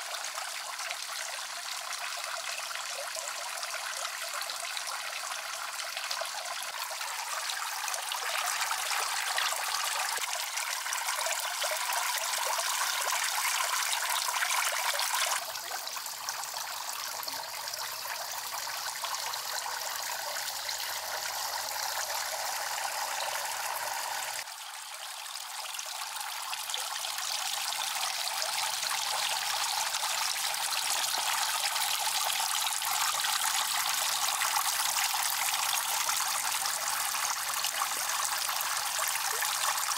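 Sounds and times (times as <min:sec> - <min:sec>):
water pouring into pond: 0:00.0 - 0:39.9.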